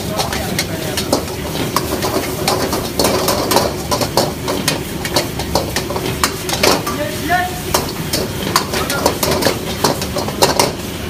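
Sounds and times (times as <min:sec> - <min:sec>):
ladle clanking against wok: 0:00.0 - 0:10.9.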